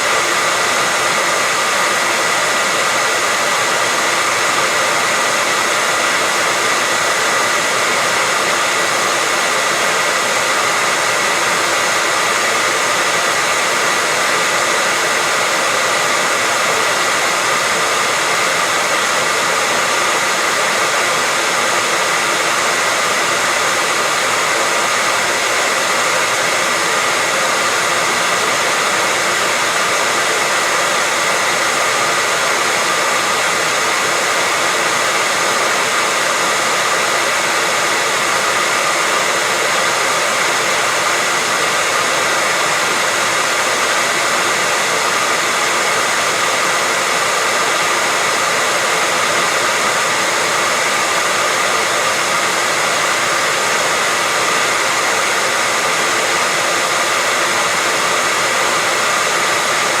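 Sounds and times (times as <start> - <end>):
hair dryer blowing: 0.0 - 60.0.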